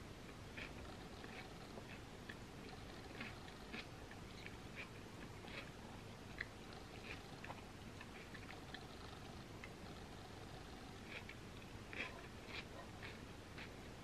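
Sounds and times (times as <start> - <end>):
person chewing food: 0.2 - 14.0.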